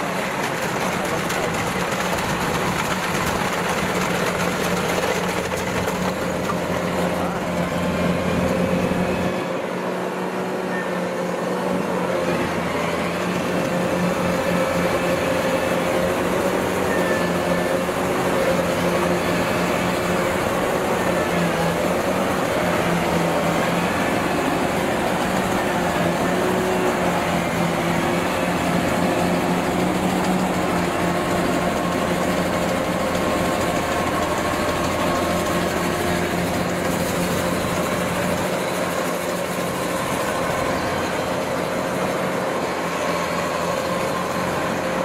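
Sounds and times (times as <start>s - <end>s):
machinery clatter: 0.0s - 9.4s, 12.2s - 45.0s
diesel engine hum: 0.0s - 45.0s.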